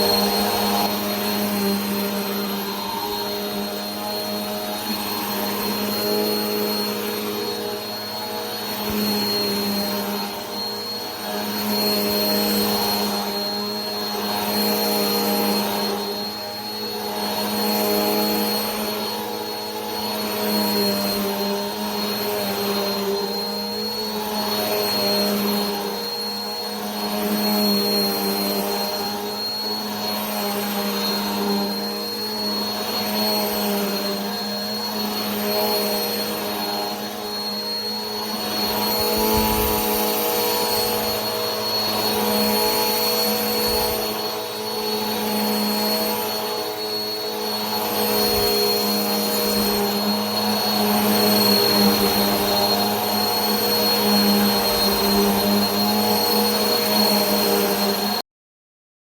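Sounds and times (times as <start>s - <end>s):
vacuum cleaner running: 0.0s - 58.2s.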